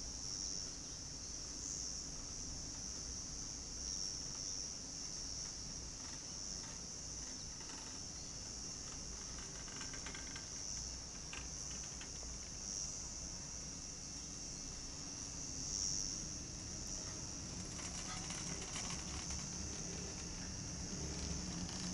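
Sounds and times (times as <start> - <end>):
insects chirping: 0.0 - 21.9.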